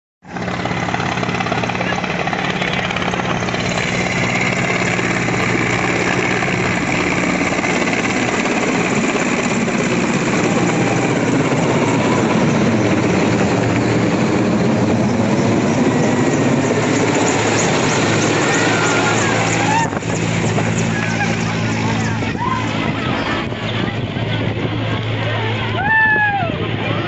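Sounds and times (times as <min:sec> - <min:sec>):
helicopter rotor chopping: 0:00.2 - 0:27.0.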